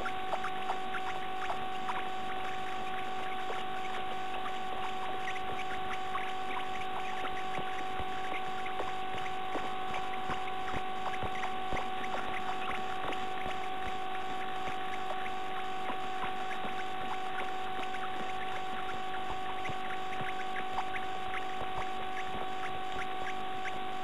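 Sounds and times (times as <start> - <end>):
electronic hiss and whine: 0.0 - 24.0.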